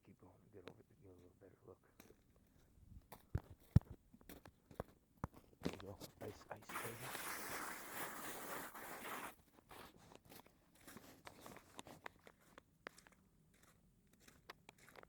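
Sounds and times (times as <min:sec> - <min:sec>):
footsteps crunching on icy snow: 0:02.0 - 0:15.0.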